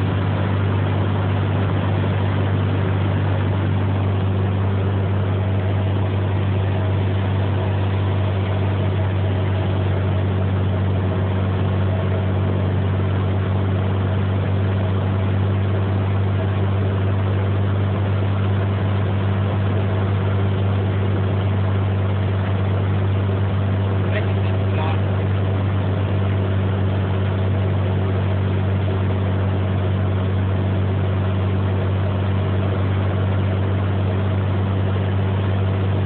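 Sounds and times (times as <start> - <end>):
aircraft engine drone in cabin: 0.0 - 36.0.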